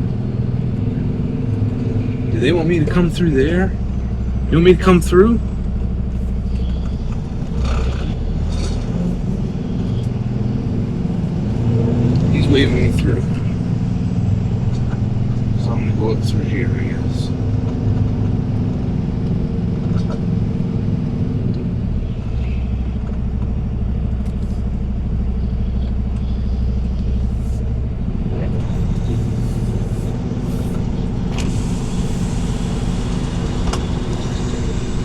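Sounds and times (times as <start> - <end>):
diesel truck engine drone: 0.0 - 35.0.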